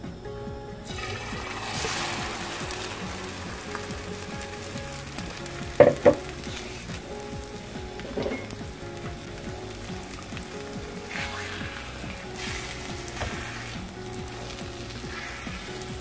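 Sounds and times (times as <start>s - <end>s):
food sizzling in a pan: 0.8s - 16.0s
wooden spatula in a pan: 0.9s - 16.0s.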